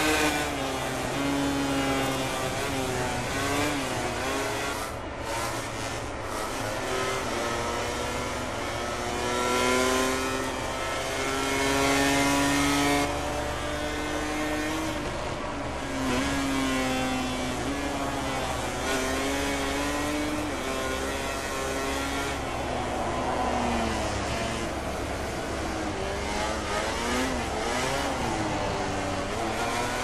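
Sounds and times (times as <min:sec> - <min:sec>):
racing motorcycle engines revving: 0:00.0 - 0:30.0.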